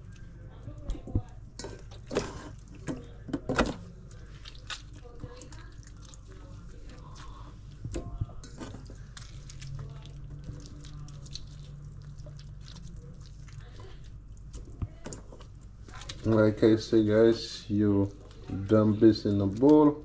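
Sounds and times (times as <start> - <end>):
hands squishing wet meat: 0.0 - 20.0.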